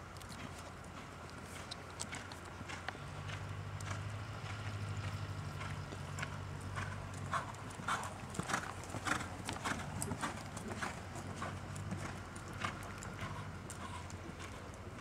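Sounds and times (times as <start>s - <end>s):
steady low hum: 0.0s - 15.0s
horse hoofbeats on sand: 0.3s - 15.0s.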